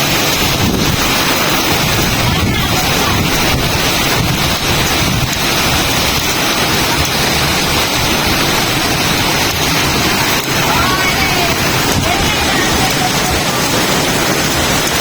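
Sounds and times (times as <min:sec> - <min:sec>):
strong storm wind: 0:00.0 - 0:15.0.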